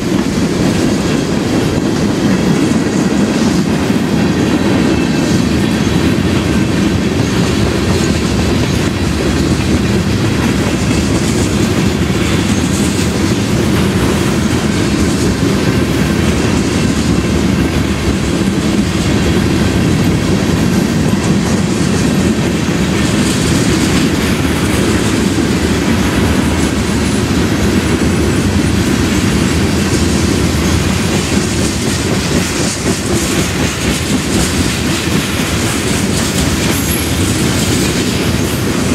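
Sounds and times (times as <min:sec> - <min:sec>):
freight train cars rolling past: 0:00.0 - 0:38.9
steel wheels on rail: 0:00.0 - 0:38.9.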